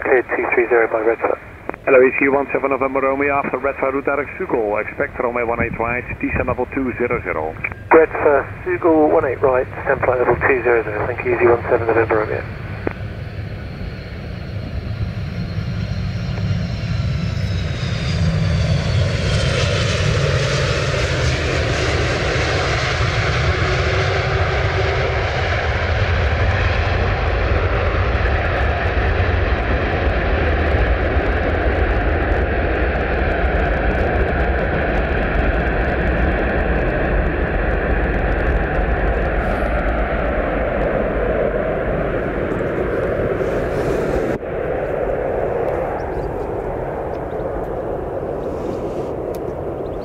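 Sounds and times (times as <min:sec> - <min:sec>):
jet engine whine: 0:00.0 - 0:50.0
jet landing rumble: 0:00.0 - 0:50.0.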